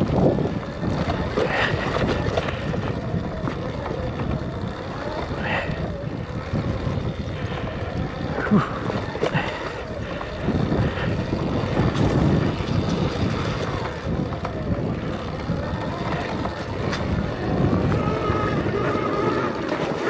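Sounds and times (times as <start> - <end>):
dirt bike rolling and rattling: 0.0 - 20.0
wind buffeting microphone: 0.0 - 20.0.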